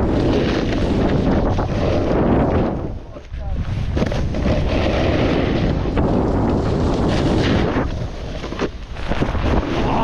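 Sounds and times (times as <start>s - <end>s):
snowboard scraping over snow: 0.0s - 10.0s
wind buffeting microphone: 0.0s - 10.0s.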